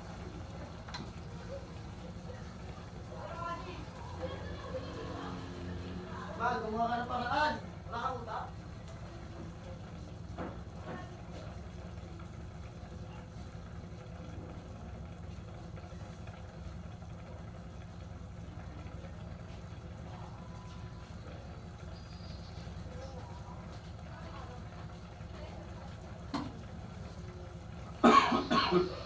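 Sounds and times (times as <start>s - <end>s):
gas burner rumble: 0.0s - 29.0s.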